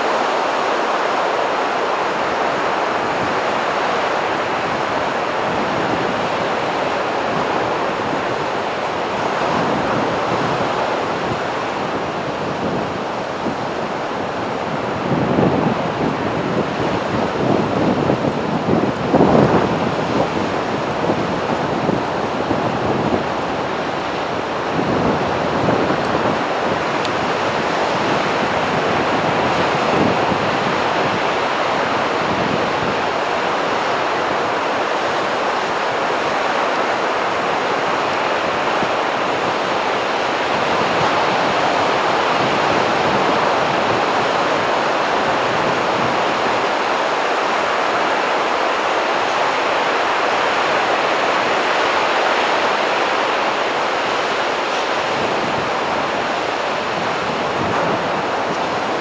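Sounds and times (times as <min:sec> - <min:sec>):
waves breaking on shore: 0:00.0 - 0:59.0.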